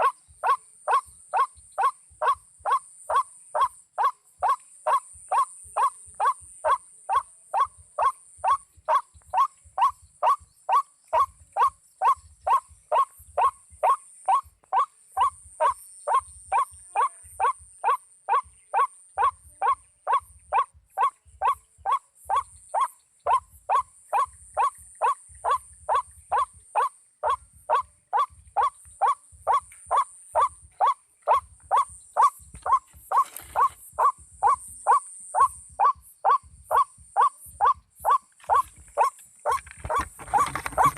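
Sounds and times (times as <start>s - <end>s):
waterhen call: 0.0s - 40.9s.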